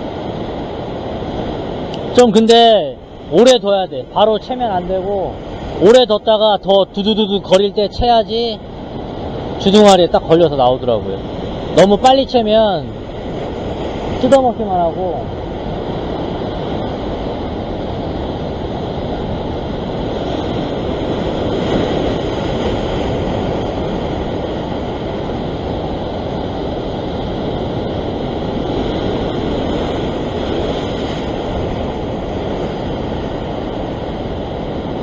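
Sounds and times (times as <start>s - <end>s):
waves breaking over rocks: 0.0s - 35.0s.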